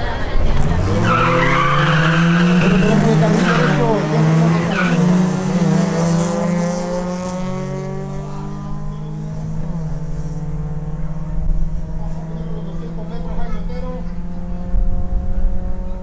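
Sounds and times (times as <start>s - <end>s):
race car engines at full throttle: 0.0s - 16.0s.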